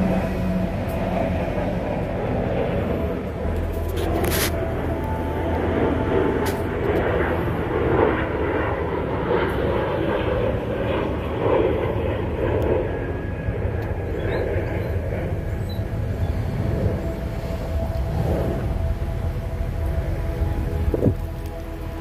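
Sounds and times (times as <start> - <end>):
steady engine drone: 0.0 - 22.0.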